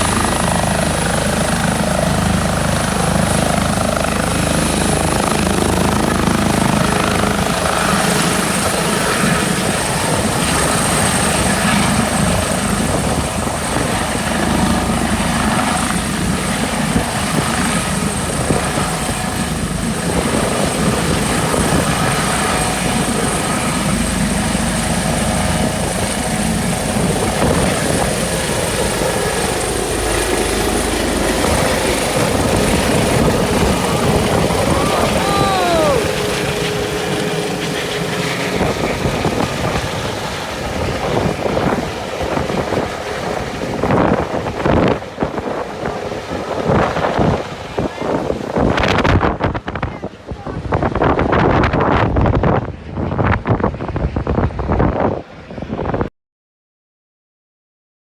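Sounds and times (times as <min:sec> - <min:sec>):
helicopter rotor beat: 0:00.0 - 0:56.0
helicopter turbine whine: 0:00.0 - 0:56.0.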